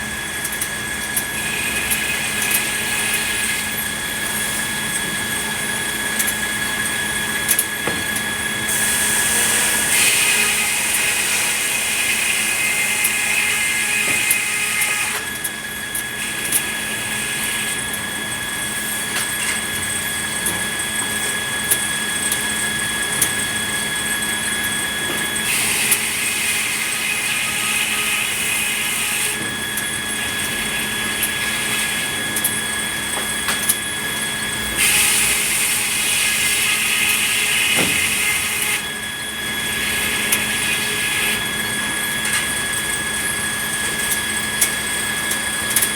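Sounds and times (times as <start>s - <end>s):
sawmill saw whining: 0.0s - 45.9s.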